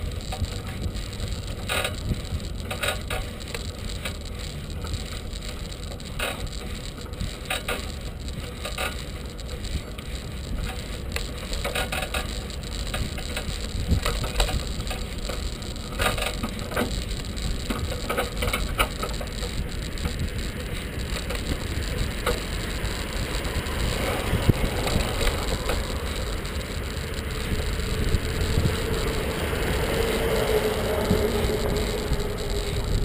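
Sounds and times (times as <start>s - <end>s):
bike rattling clicks: 0.0s - 33.0s
faint steady whine: 0.0s - 33.0s
wind and road rumble: 0.0s - 33.0s.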